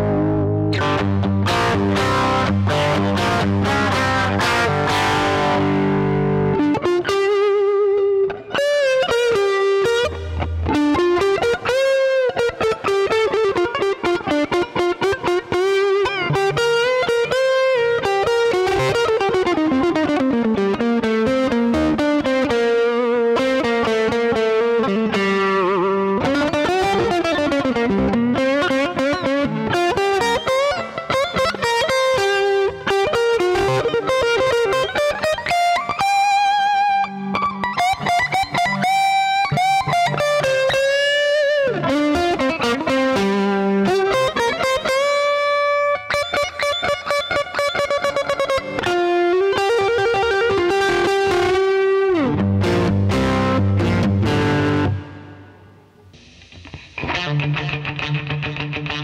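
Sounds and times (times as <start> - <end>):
distorted electric guitar lead: 0.0 - 59.0.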